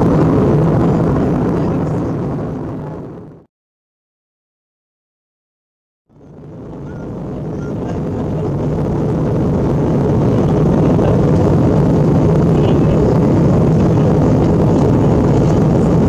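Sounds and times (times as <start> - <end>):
aircraft cabin engine rumble: 0.0 - 3.5, 6.1 - 16.0.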